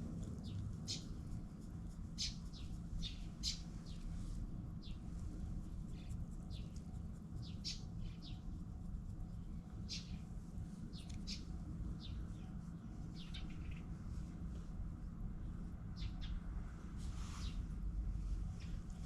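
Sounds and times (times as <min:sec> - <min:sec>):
low background rumble: 0:00.0 - 0:19.0
small birds chirping: 0:00.3 - 0:14.3, 0:15.4 - 0:16.5, 0:17.4 - 0:17.7.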